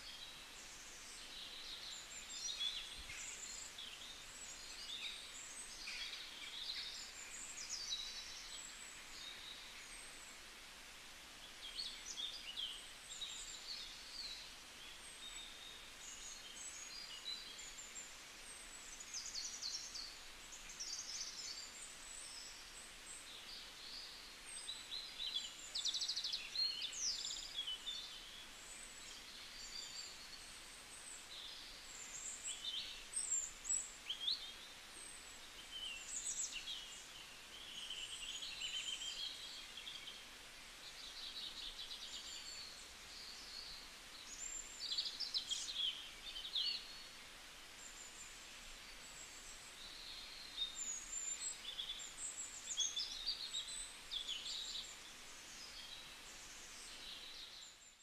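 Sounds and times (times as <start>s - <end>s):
faint hiss: 0.0s - 58.0s
small birds chirping and twittering: 0.0s - 58.0s.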